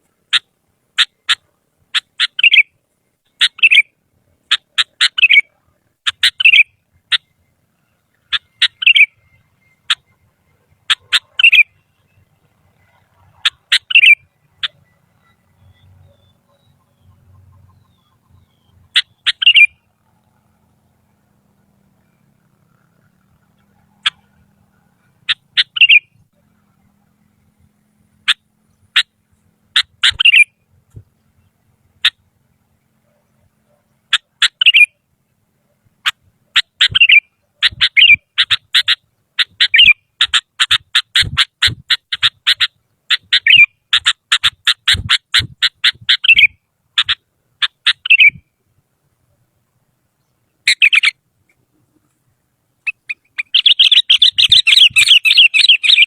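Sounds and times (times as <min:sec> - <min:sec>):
bulbul calling: 0:00.1 - 0:56.0.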